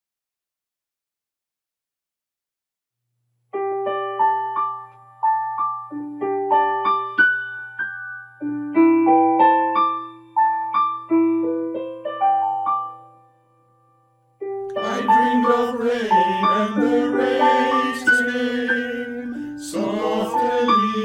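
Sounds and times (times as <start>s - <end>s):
solo piano broken chords: 3.6s - 21.0s.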